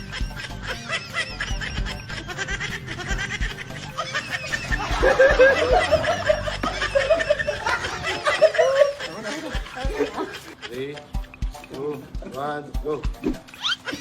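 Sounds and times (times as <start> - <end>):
people laughing: 0.0 - 11.3.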